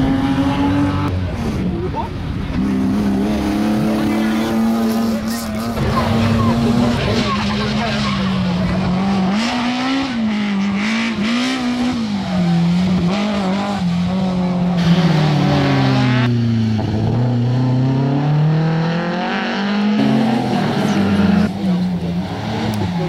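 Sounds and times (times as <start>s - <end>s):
rally car engines revving: 0.0s - 23.0s.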